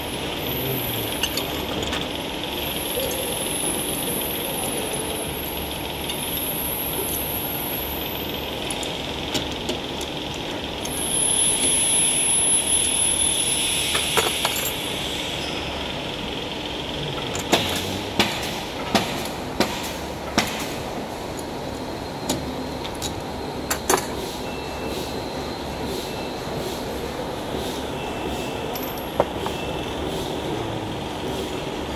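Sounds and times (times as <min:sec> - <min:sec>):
mechanical hum and hiss: 0:00.0 - 0:31.9.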